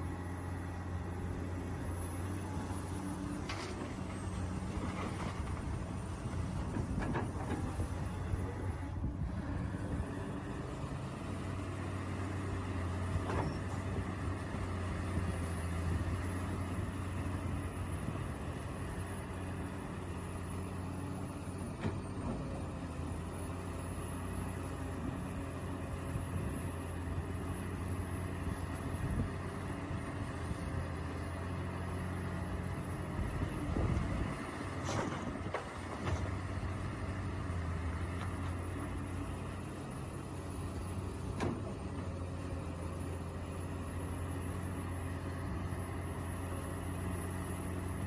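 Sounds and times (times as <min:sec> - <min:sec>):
steady mechanical hum: 0:00.0 - 0:48.0.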